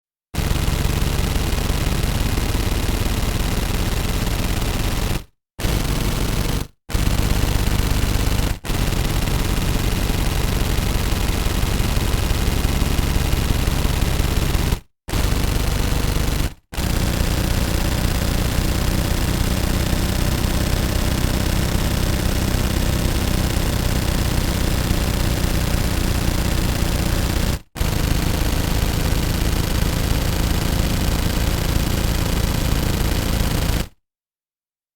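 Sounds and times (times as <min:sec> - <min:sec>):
submachine gun automatic fire: 0:00.4 - 0:34.0.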